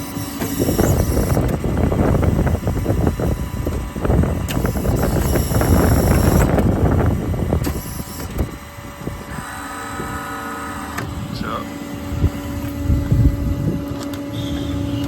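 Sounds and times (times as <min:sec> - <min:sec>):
steady whine: 0:00.0 - 0:15.0
truck diesel engine running: 0:00.0 - 0:15.0.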